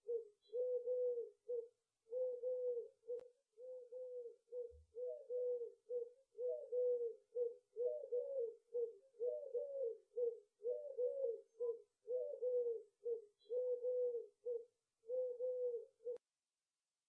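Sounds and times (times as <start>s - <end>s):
dove cooing: 0.0s - 16.2s.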